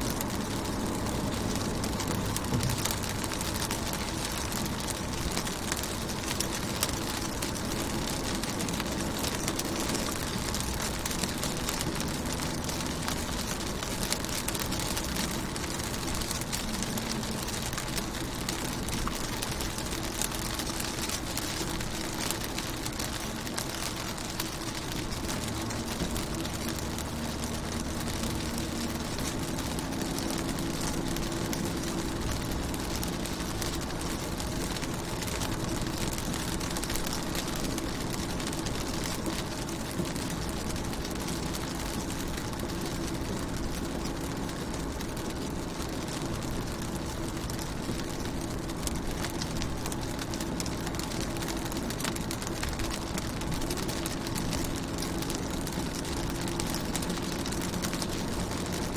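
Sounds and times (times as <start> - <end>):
low steady hum: 0.0 - 58.9
rain on a car window: 0.0 - 58.9.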